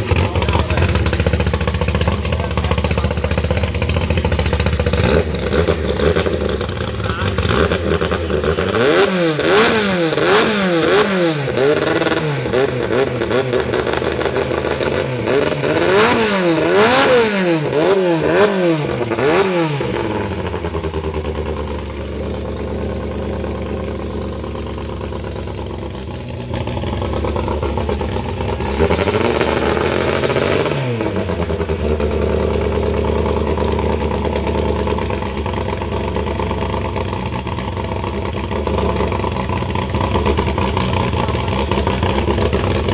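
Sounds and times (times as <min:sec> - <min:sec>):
boat engine revving and idling: 0:00.0 - 0:42.9.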